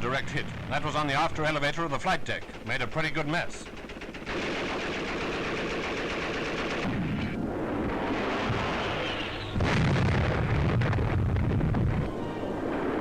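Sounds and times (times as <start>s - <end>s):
anti-aircraft gunfire: 0.0s - 12.1s.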